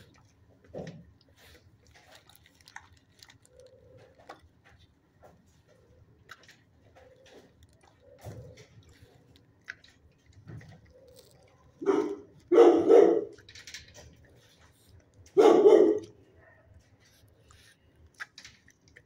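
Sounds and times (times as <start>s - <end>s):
dog chewing treats: 0.0s - 19.0s.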